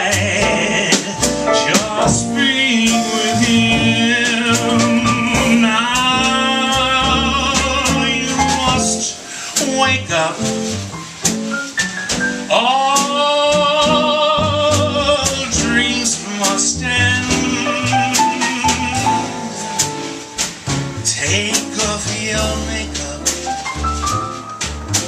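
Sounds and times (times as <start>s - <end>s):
man singing: 0.0s - 10.8s, 12.4s - 20.2s, 21.0s - 23.7s
drum kit with cymbal strokes: 0.0s - 25.0s
piano: 0.0s - 25.0s.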